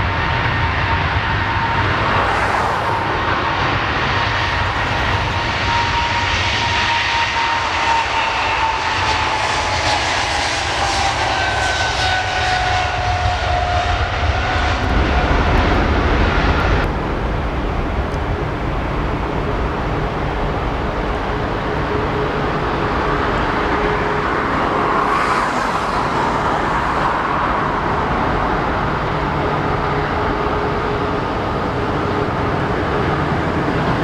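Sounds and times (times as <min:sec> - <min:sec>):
jet engines roaring at takeoff: 0:00.0 - 0:34.0.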